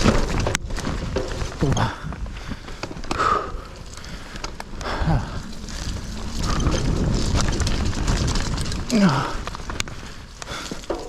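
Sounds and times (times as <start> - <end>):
bike rattling clicks and knocks: 0.0 - 11.0
rumbling tyre noise: 0.0 - 11.0
wind noise on microphone: 0.0 - 11.0.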